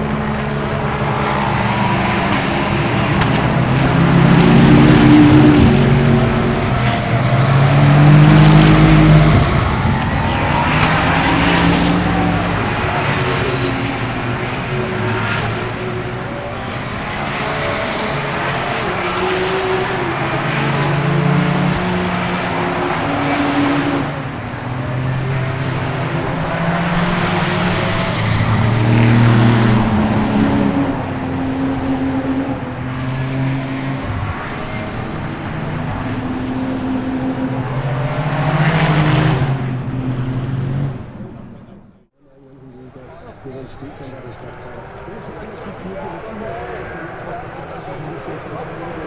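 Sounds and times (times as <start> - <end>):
race car engines passing: 0.0 - 49.0.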